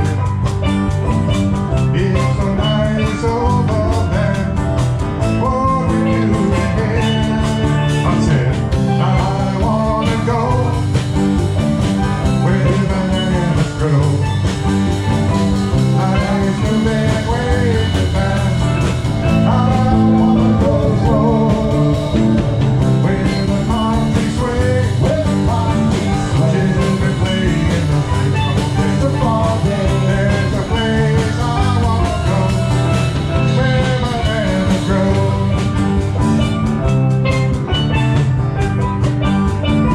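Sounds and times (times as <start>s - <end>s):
bass guitar: 0.0s - 39.9s
drum kit: 0.0s - 39.9s
guitar: 0.0s - 39.9s
steel drums: 0.0s - 39.9s.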